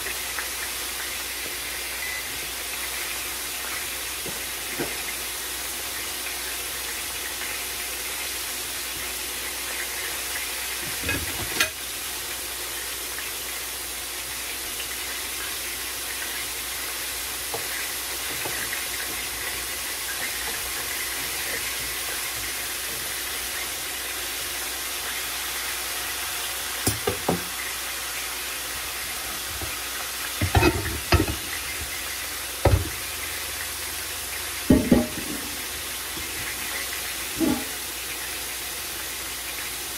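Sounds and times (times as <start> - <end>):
pot of pasta boiling: 0.0 - 39.9.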